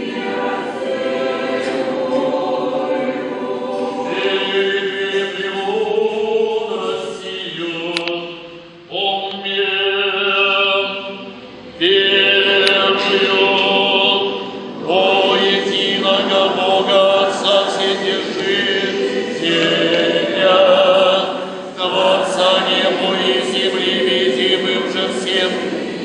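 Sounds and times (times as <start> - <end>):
choir singing a cappella chant: 0.0 - 26.0.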